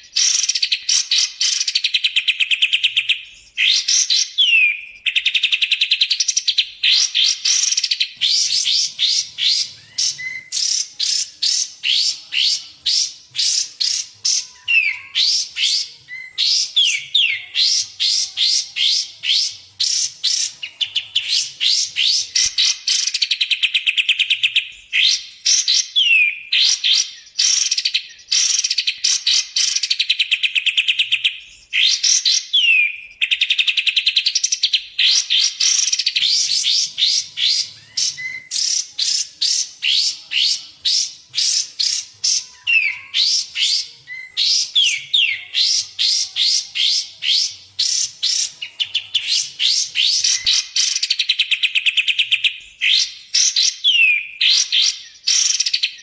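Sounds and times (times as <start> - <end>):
recorded songbird whistles and trills: 0.0 - 56.0.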